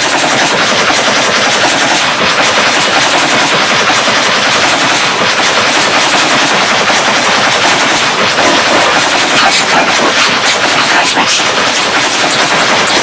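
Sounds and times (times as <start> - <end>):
harsh crackling of rapid clicks: 0.0 - 13.0.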